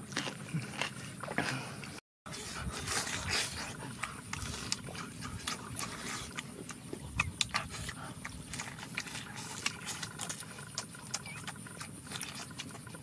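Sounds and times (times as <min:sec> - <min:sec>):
chewing and mouth smacking: 0:00.0 - 0:13.0.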